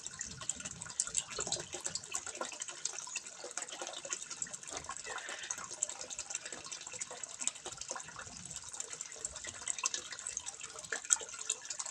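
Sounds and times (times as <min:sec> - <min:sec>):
water trickling into pond: 0:00.0 - 0:11.9.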